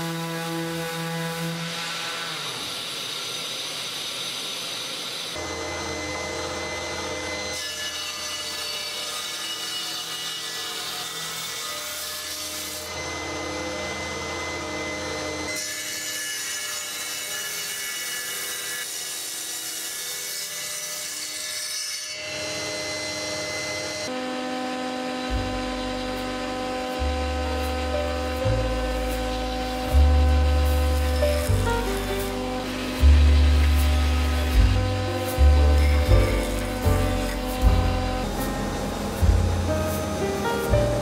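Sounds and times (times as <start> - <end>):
handheld sander on wood: 0.0 - 21.4, 22.2 - 41.0
table saw ripping wood: 0.0 - 41.0.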